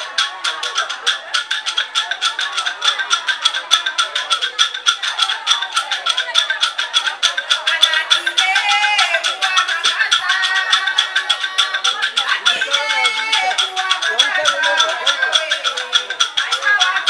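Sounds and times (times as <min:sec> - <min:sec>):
music with fast rattle beat: 0:00.0 - 0:17.0.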